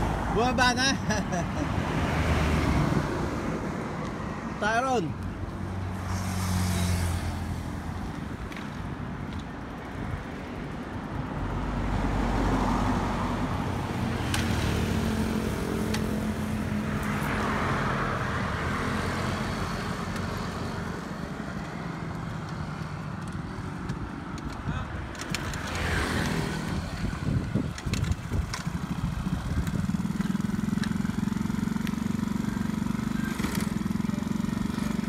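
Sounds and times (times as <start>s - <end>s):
motor scooters and motorcycles passing: 0.0s - 35.0s
steady road rumble: 0.0s - 35.0s.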